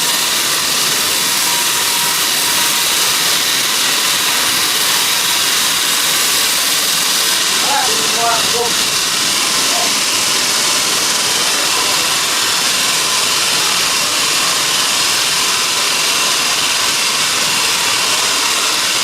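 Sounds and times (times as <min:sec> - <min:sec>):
sawmill machinery hissing: 0:00.0 - 0:19.0.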